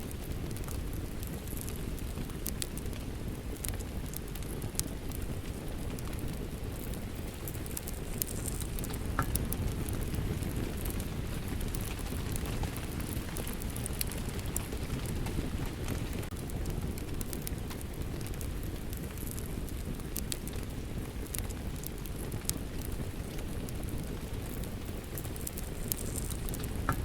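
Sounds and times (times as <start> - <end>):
steady rain: 0.0 - 27.0
wood fire crackling and popping: 0.0 - 27.0.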